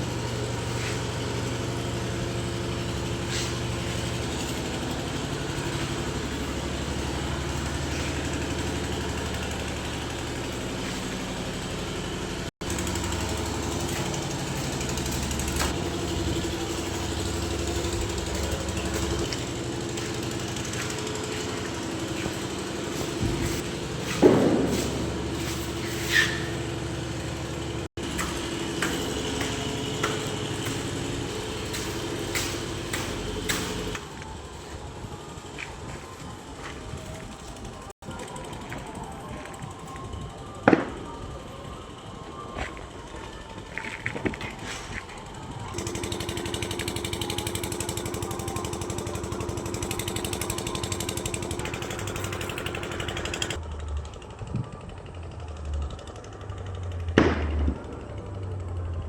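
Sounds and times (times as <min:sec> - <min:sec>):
construction machinery rattling: 0:00.0 - 0:59.0
engine running: 0:00.0 - 0:59.0.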